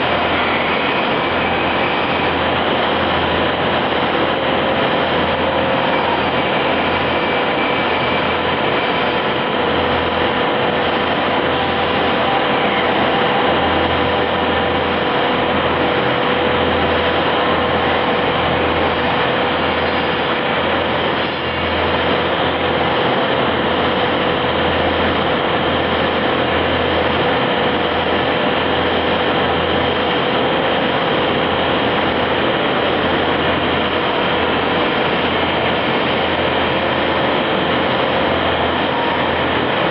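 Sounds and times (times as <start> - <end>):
machine running with whine: 0.0 - 39.9.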